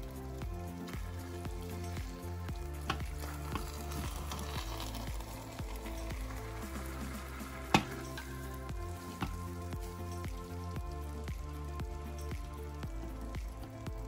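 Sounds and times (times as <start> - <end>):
background music with bass: 0.0 - 14.0
light sizzle: 0.0 - 14.0.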